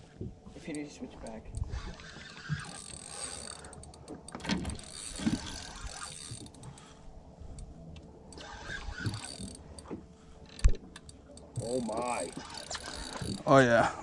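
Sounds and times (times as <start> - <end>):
fishing reel gears and drag clicking: 0.6 - 7.7, 8.3 - 13.6.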